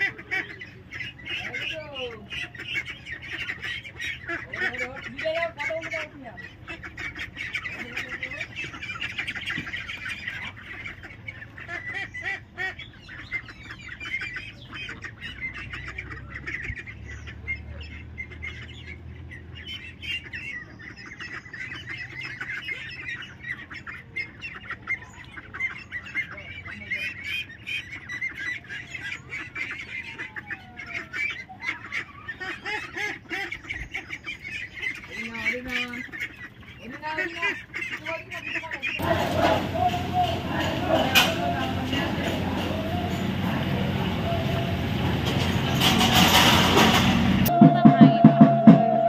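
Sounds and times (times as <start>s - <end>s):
ducklings calling: 0.0s - 49.0s.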